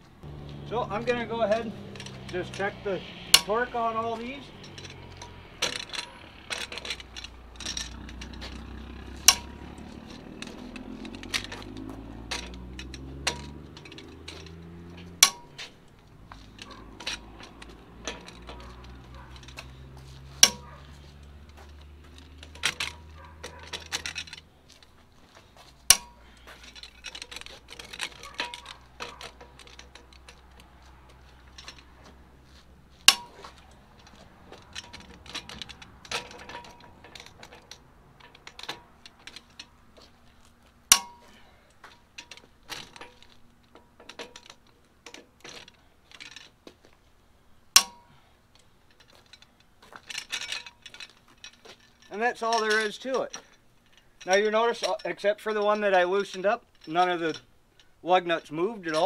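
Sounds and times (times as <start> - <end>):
ratchet and socket clinking: 0.3 - 47.0, 47.7 - 58.0.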